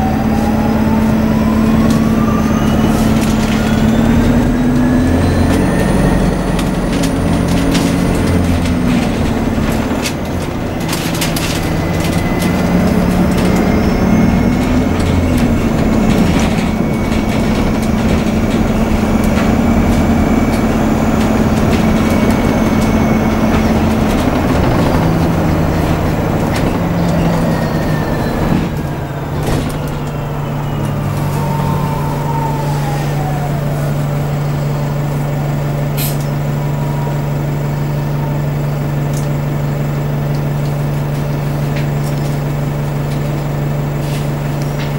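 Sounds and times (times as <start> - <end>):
low hum: 0.0 - 44.8
bus drive whine: 0.0 - 44.9.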